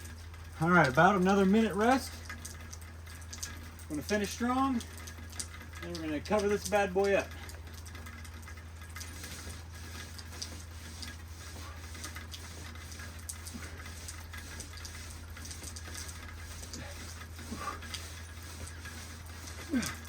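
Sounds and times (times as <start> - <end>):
drops ticking: 0.0 - 20.0
rain falling: 0.0 - 20.0.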